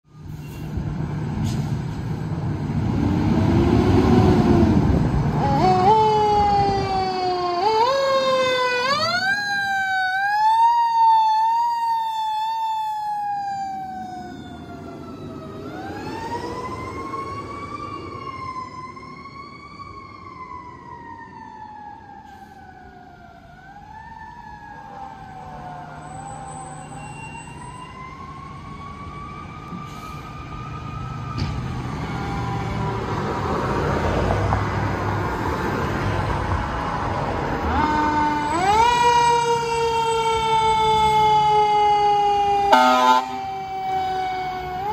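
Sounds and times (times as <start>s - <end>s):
fire engine siren wailing: 0.1s - 44.9s
fire engine revving: 0.2s - 20.5s, 24.0s - 44.9s.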